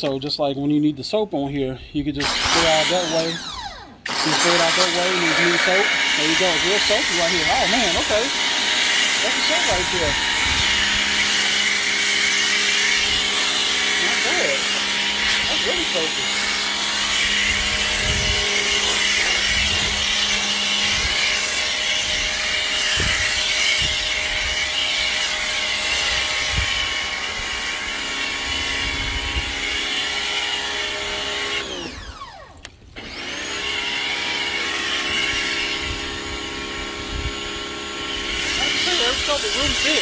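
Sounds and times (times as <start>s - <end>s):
pressure washer motor whine: 2.2s - 40.0s.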